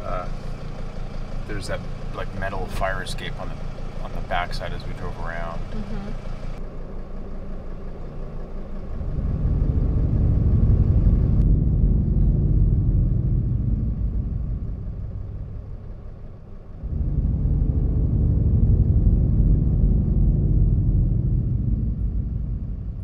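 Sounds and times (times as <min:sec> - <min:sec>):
van engine rumbling: 0:00.0 - 0:23.0.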